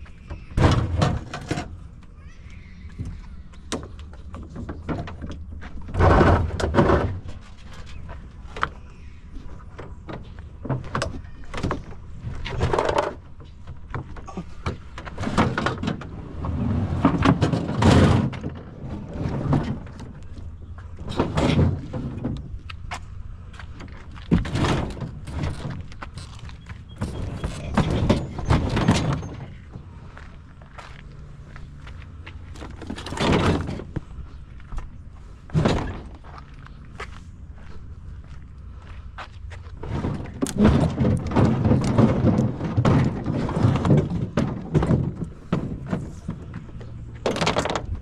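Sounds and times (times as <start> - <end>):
scrap clunking and scraping: 0.0 - 48.0
vehicle engine rumbling: 0.0 - 48.0.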